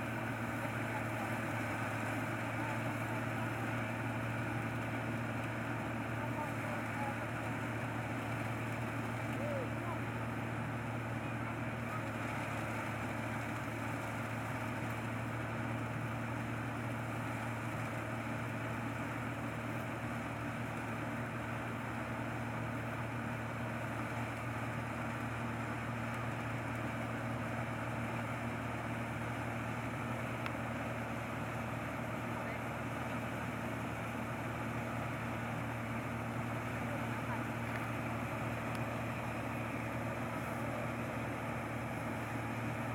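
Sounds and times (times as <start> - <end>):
harvester engine droning: 0.0 - 42.9.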